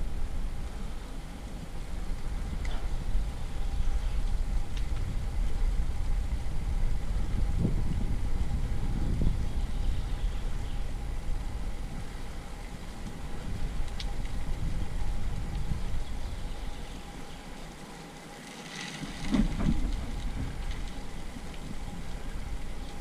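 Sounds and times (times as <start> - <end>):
tyre noise on asphalt: 0.0 - 23.0
wind rumbling on microphone: 0.0 - 23.0.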